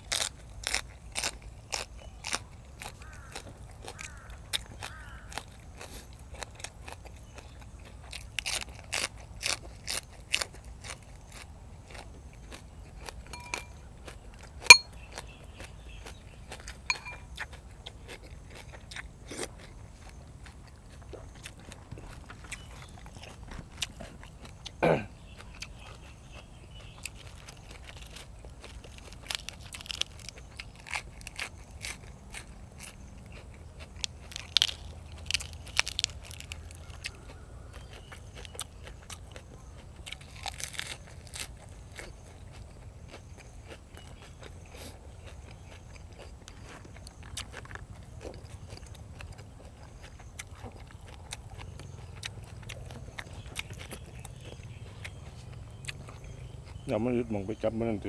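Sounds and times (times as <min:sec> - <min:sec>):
person chewing and crunching food: 0:00.0 - 0:58.0.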